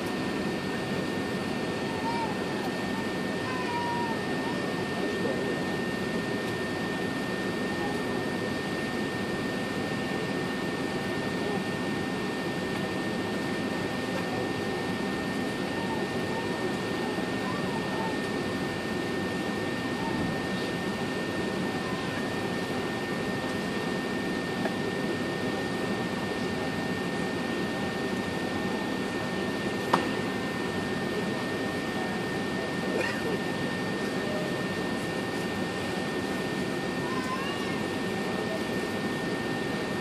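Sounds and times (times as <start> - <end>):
airplane cabin hum: 0.0 - 40.0.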